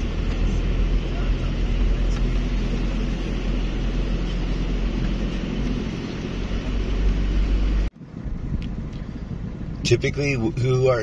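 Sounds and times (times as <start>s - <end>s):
road and wind noise: 0.0s - 11.0s
vehicle engine hum: 0.0s - 11.0s.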